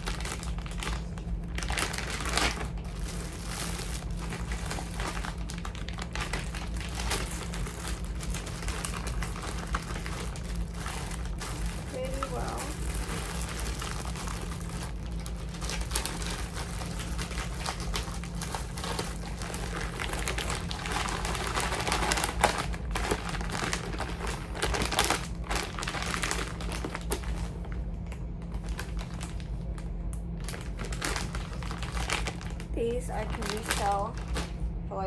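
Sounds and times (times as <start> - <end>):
cords rustling and crinkling: 0.0 - 35.0
steady low hum: 0.0 - 35.0.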